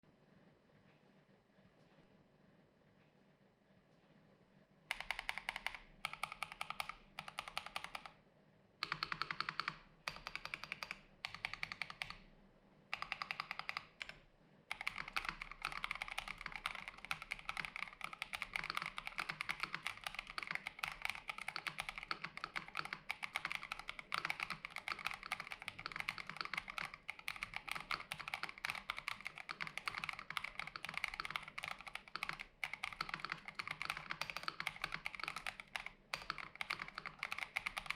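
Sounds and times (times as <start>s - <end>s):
typing on mechanical keyboard: 4.9s - 8.2s, 8.8s - 12.3s, 12.9s - 37.9s.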